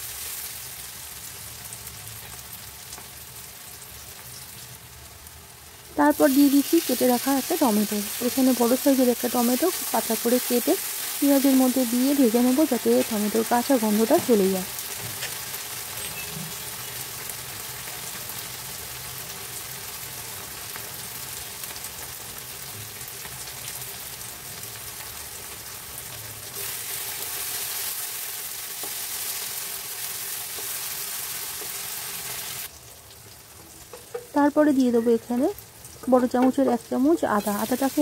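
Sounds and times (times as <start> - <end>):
onions sizzling in oil: 0.0 - 38.0.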